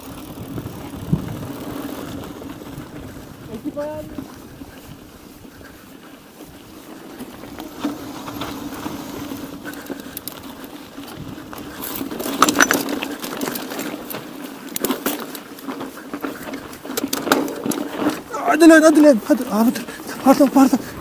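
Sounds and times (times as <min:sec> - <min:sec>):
bike rattling: 0:00.0 - 0:21.0
bike tyres crunching on dirt: 0:00.0 - 0:21.0.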